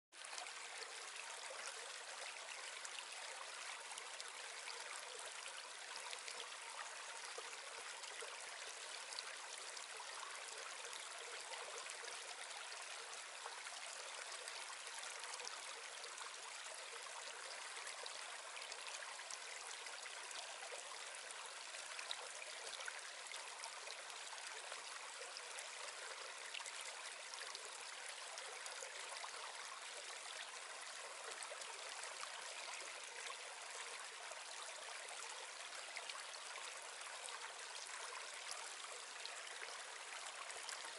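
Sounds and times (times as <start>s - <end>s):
stream flowing water: 0.2s - 40.9s.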